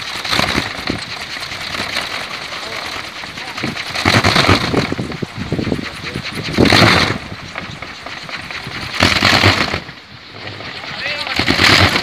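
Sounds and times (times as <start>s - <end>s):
wind on microphone: 0.0s - 12.0s
wooden propeller whirring: 0.0s - 12.0s.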